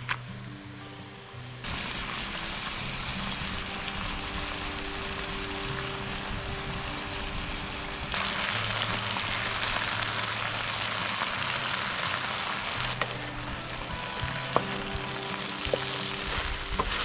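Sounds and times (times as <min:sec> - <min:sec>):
food sizzling in pan: 0:01.7 - 0:17.0.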